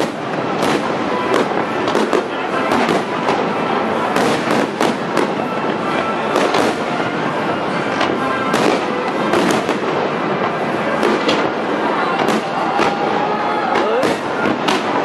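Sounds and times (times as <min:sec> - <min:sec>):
fireworks bangs: 0:00.0 - 0:15.0
fireworks crackle and echo: 0:00.0 - 0:15.0.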